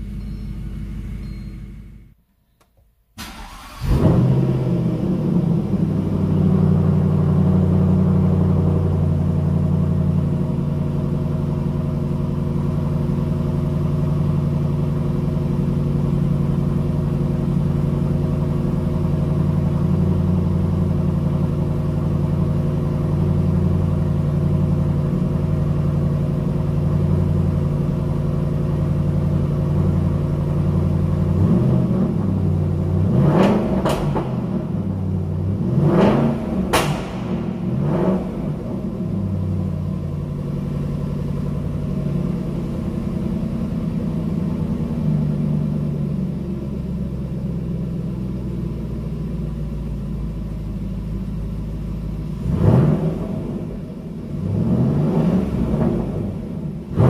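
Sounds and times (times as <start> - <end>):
car engine starting and idling: 0.0 - 57.0.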